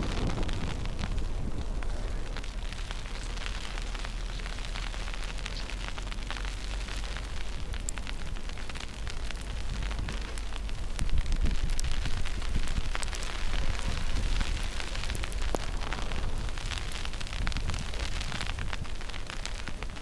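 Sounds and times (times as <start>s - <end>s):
crackle of small ticks: 0.0s - 20.0s
wind buffeting microphone: 0.0s - 20.0s.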